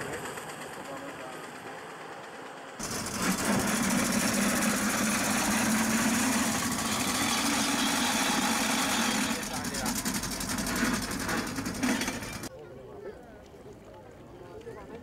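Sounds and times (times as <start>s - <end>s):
old car engine running: 0.0s - 12.5s.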